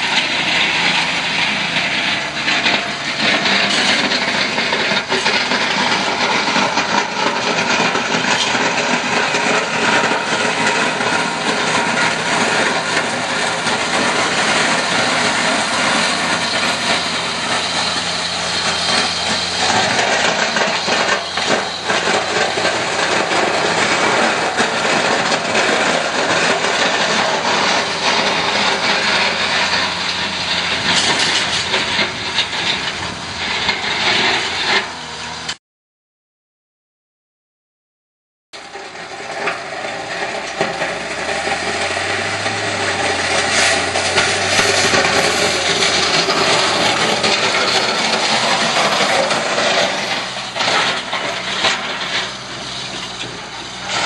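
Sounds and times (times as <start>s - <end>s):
plow blade scraping dirt: 0.0s - 35.6s, 38.6s - 54.0s
truck engine under load: 0.0s - 35.6s, 38.6s - 54.0s.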